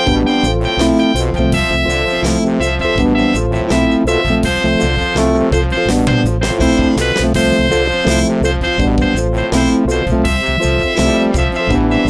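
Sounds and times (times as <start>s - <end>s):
keyboard instrumental with beat: 0.0s - 12.0s.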